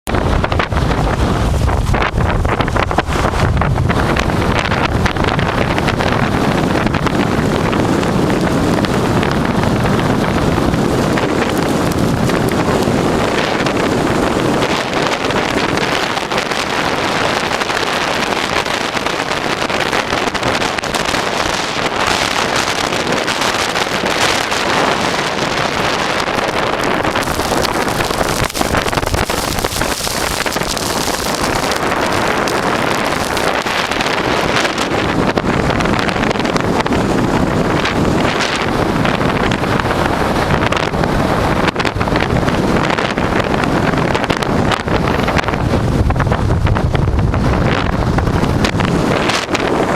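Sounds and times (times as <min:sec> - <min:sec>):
strong wind buffeting microphone: 0:00.0 - 0:49.9.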